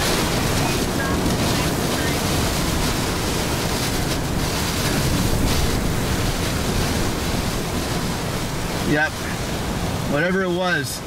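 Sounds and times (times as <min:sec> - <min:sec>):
gusty wind buffeting microphone: 0:00.0 - 0:10.8.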